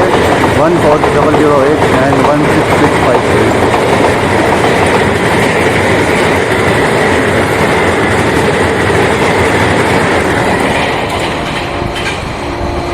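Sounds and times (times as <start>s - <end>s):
train wheels rushing on rails: 0.0s - 12.9s.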